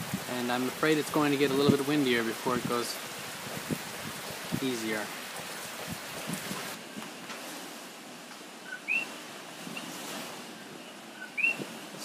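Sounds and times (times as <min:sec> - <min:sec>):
wind and rain hiss: 0:00.0 - 0:12.0.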